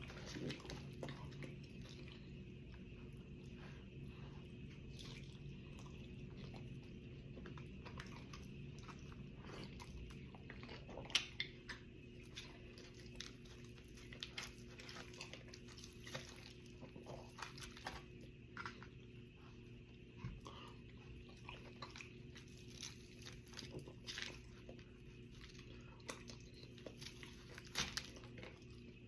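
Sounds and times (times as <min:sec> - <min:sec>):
person chewing crunchy food: 0:00.0 - 0:29.0.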